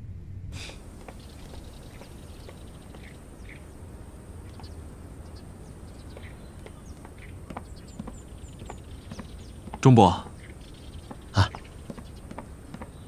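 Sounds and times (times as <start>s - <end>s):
steady hiss: 0.4s - 13.0s
bird chirps: 0.6s - 13.0s.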